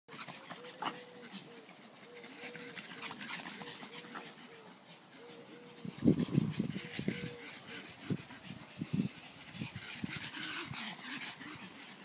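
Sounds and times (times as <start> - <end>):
dogs whimpering: 0.1 - 12.0.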